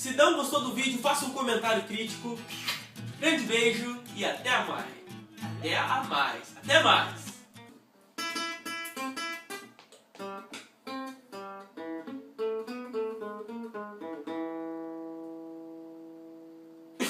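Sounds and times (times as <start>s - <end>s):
acoustic guitar plucked notes: 0.4s - 17.0s.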